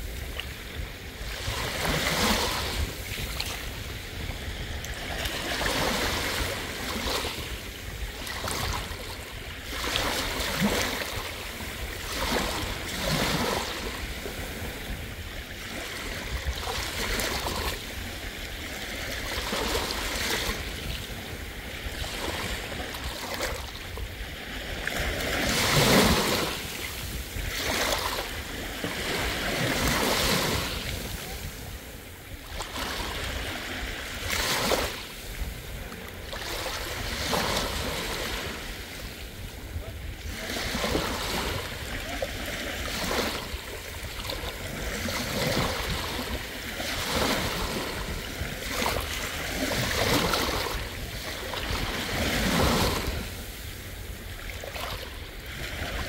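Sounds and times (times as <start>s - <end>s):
small waves washing onto beach: 0.0s - 56.0s.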